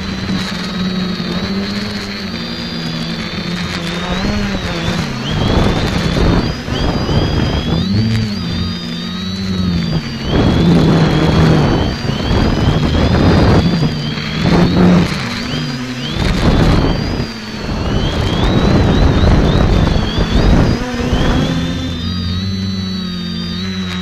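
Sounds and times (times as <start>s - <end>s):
wind gusts on microphone: 0.0s - 22.9s
quadcopter propellers whining: 0.0s - 24.0s.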